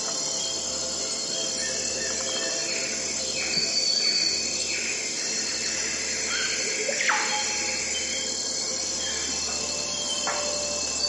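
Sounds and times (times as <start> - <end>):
birds calling and chirping: 0.0 - 11.0
insect chirring: 0.0 - 11.0
soft sustained tonal melody: 0.0 - 11.0.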